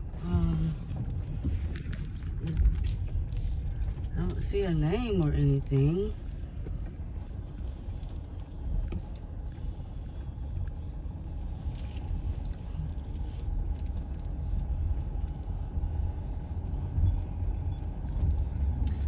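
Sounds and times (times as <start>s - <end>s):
car engine and tyres rumbling: 0.0s - 19.0s
light clicks and rattles: 0.3s - 19.0s.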